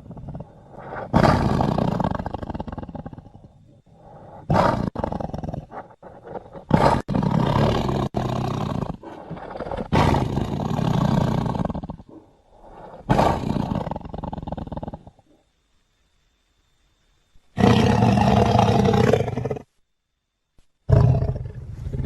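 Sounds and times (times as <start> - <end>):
big cat roars: 0.0 - 15.3, 17.6 - 19.7, 20.9 - 22.0.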